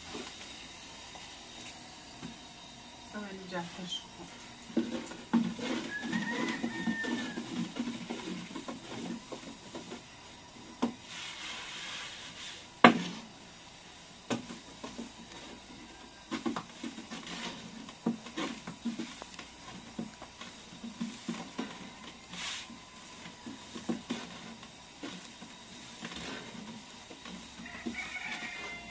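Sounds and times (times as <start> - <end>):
rolling pin rolling dough: 0.0 - 28.9.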